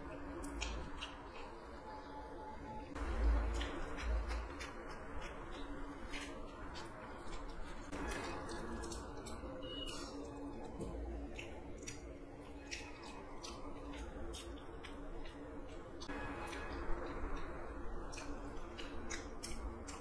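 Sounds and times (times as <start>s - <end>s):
chewing: 0.0s - 20.0s
crunchy food crackling: 2.8s - 20.0s.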